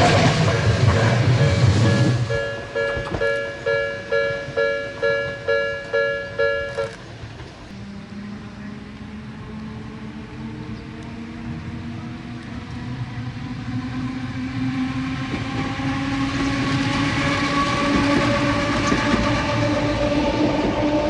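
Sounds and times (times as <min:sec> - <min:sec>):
electric railcar motors whining: 0:00.0 - 0:21.0.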